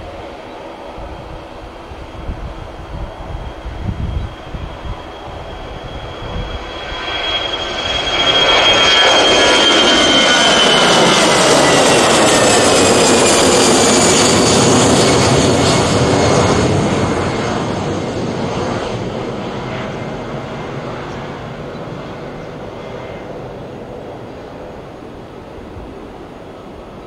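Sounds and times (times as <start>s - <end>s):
jet airliner roar: 0.0s - 27.0s.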